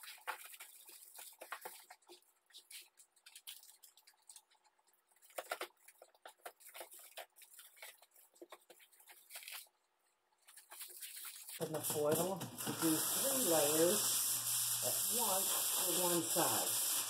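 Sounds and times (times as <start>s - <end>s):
aluminium foil crinkling: 0.0s - 9.8s, 10.4s - 17.0s.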